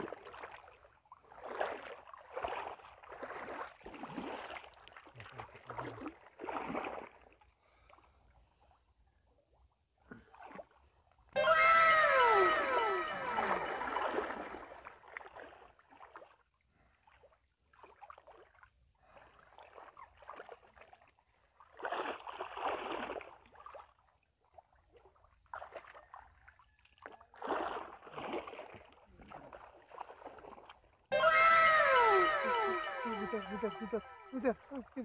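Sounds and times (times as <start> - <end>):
water splashing and sloshing: 0.0 - 31.1.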